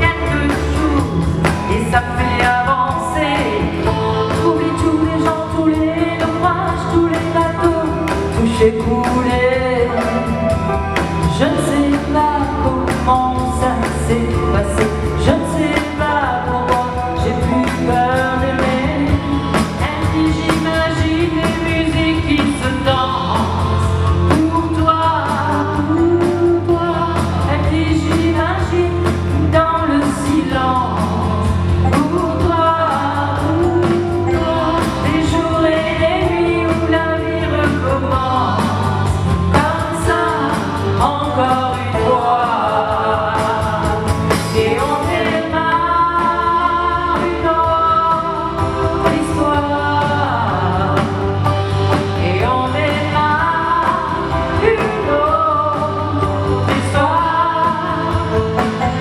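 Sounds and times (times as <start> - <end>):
drum kit: 0.0 - 59.0
keyboard: 0.0 - 59.0
woman singing into microphone: 0.0 - 59.0.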